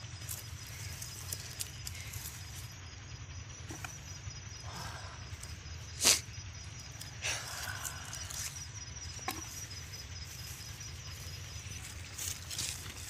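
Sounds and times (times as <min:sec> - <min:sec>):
faint high pulsing chirp: 0:00.0 - 0:13.0
steady low rumble: 0:00.0 - 0:13.0.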